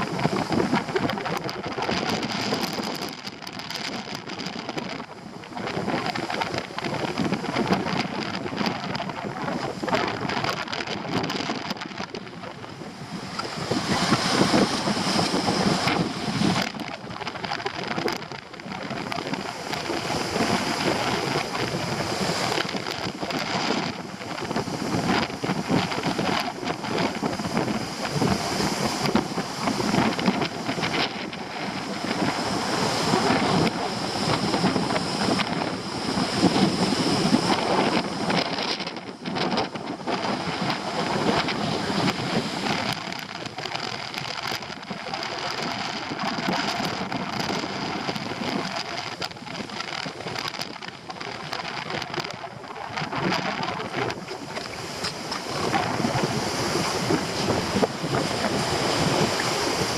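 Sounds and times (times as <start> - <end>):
surf breaking and churning: 0.0 - 59.9
wind buffeting microphone: 0.0 - 59.9.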